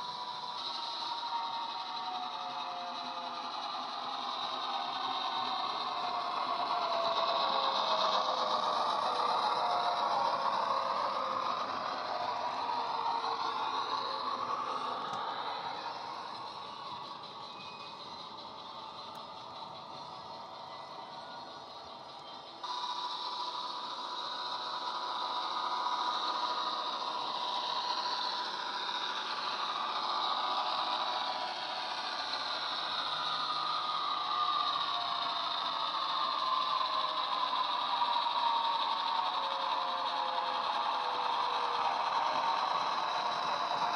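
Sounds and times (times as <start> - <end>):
diesel engine sound through small speaker: 0.0 - 43.9
model train wheels rattling on track: 0.0 - 43.9.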